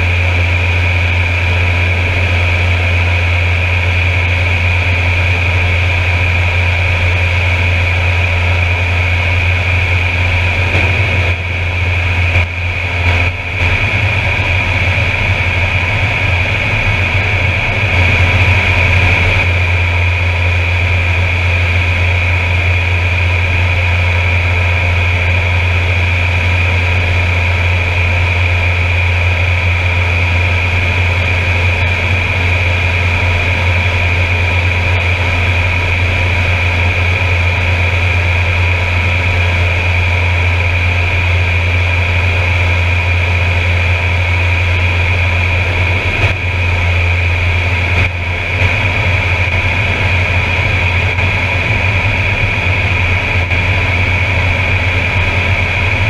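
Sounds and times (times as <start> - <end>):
deep propeller drone: 0.0 - 56.0
high turbine whine: 0.0 - 56.0.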